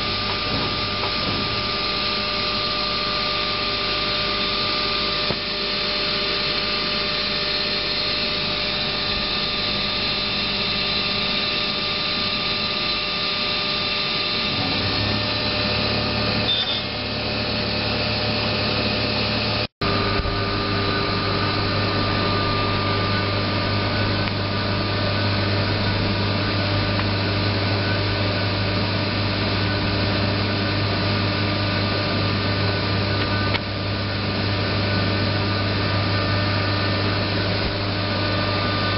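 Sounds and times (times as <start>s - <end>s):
book saw machine drone: 0.0s - 38.9s.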